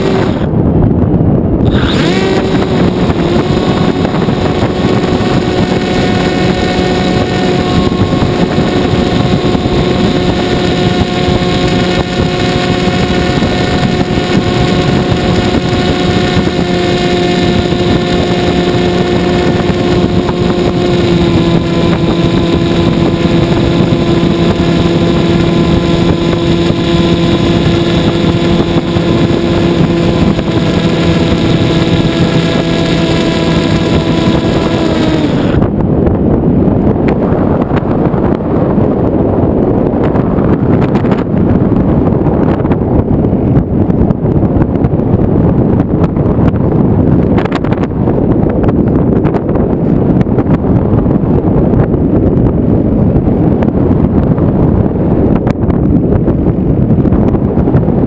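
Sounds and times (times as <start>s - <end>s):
model plane motor and propeller: 0.0s - 0.7s, 1.6s - 58.0s
wind rushing over microphone: 0.0s - 58.0s.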